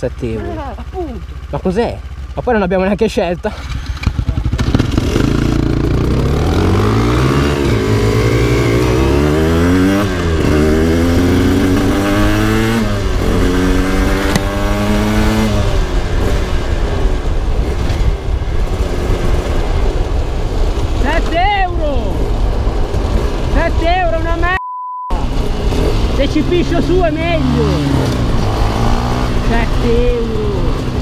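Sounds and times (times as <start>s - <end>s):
motorcycle engine accelerating: 0.0s - 21.2s, 21.8s - 31.0s.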